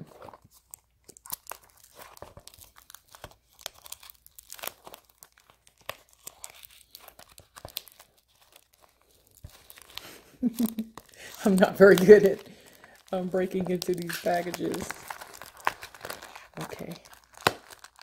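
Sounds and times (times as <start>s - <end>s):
plastic wrapping crinkling and tearing: 0.0s - 18.0s.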